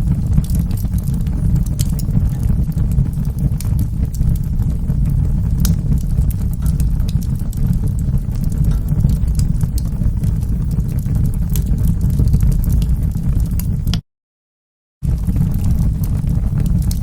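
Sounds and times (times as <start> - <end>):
wood fire crackling: 0.0 - 14.0, 15.0 - 17.0.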